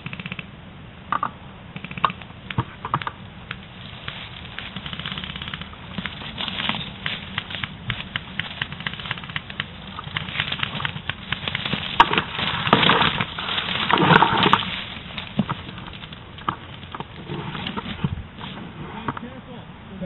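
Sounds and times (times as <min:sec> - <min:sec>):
dry reeds rustling and snapping: 0:01.8 - 0:19.2.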